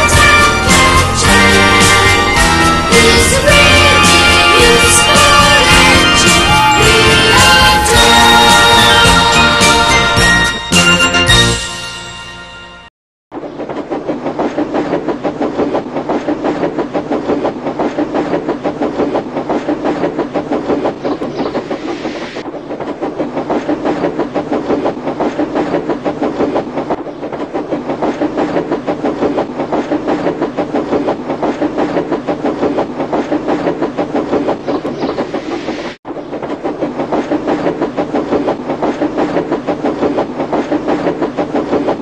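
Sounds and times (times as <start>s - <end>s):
train clattering on track: 0.0s - 11.4s, 13.3s - 42.0s.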